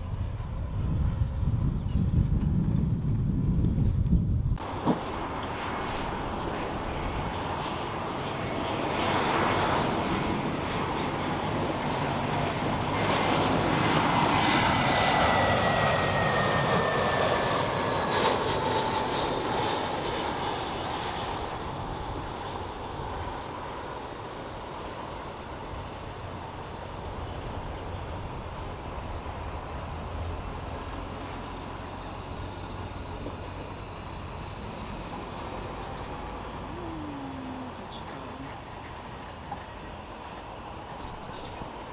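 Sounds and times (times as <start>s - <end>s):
jet engines passing: 0.0s - 41.9s.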